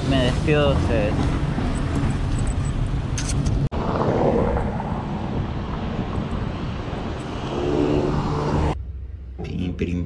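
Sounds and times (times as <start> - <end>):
low road noise rumble: 0.0 - 10.0.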